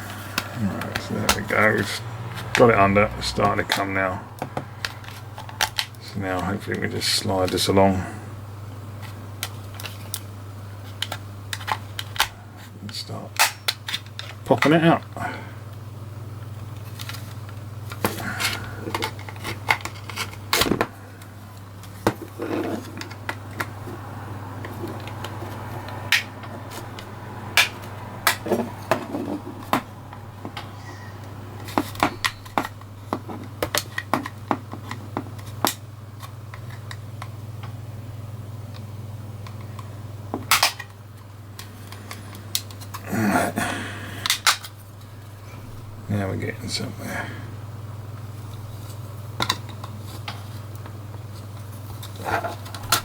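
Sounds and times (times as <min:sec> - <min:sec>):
handling noise: 0:00.0 - 0:12.8, 0:13.4 - 0:43.3, 0:47.6 - 0:53.0
steady low hum: 0:00.0 - 0:53.0.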